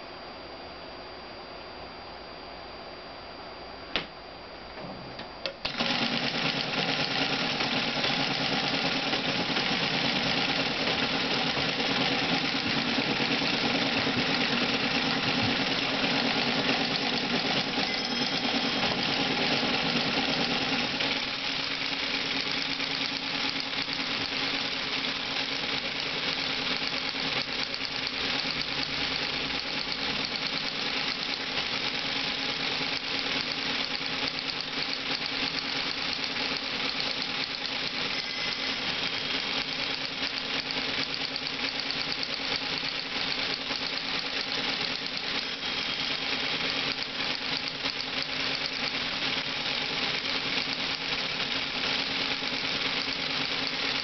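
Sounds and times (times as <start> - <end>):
teletype motor running: 5.6 - 54.0.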